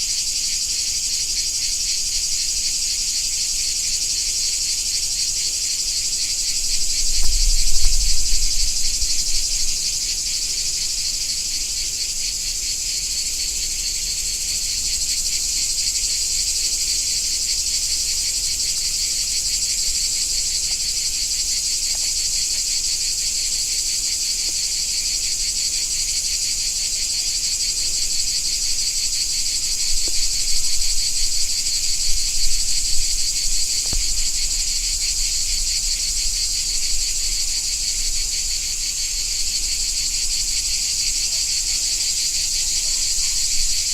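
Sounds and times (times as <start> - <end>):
cicadas buzzing: 0.0 - 43.9.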